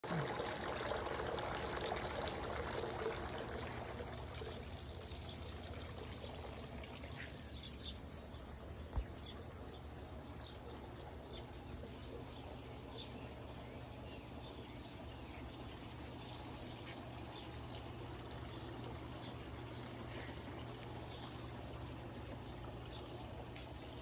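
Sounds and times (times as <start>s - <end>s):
fountain water trickling and splashing: 0.0s - 24.0s.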